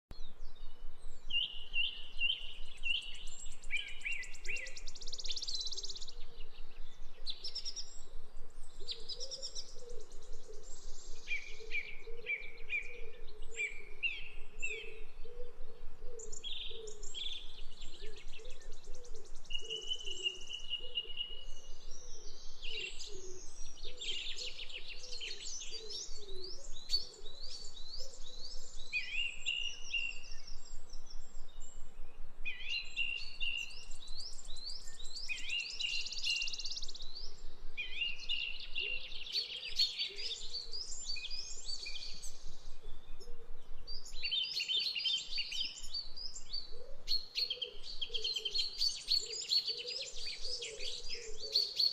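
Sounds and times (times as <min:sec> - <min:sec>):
songbirds chirping: 0:00.1 - 0:51.9.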